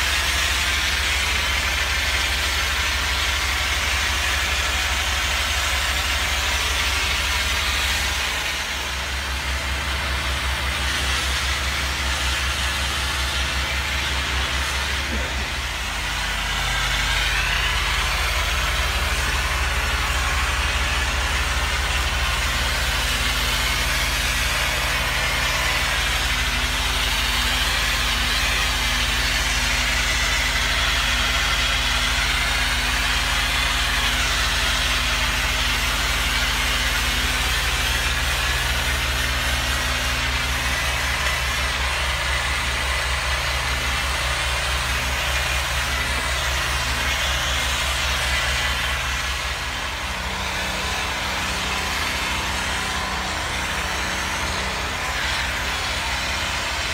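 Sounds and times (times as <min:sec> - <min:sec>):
pressure washer engine running: 0:00.0 - 0:56.9.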